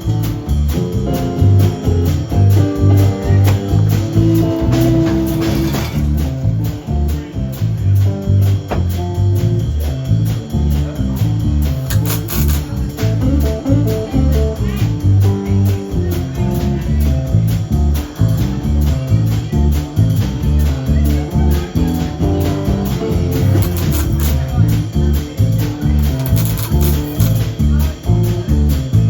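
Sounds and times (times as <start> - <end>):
blues guitar: 0.0 - 29.0
steady drum beat: 0.0 - 29.0
walking bass line: 0.0 - 29.0.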